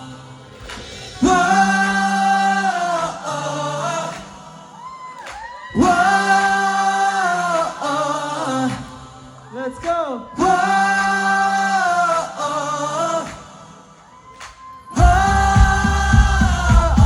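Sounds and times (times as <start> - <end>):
male vocal group singing harmony: 0.0 - 17.0.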